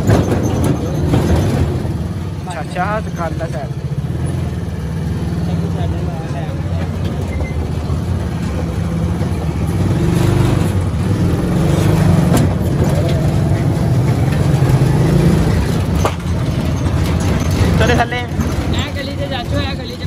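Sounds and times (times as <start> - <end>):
motor rickshaw engine running: 0.0 - 20.0.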